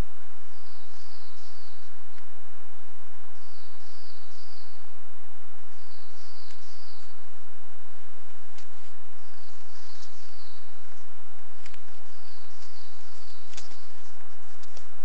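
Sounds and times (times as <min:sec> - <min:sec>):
hiss and low electrical hum: 0:00.0 - 0:15.0
songbird singing: 0:00.0 - 0:15.0.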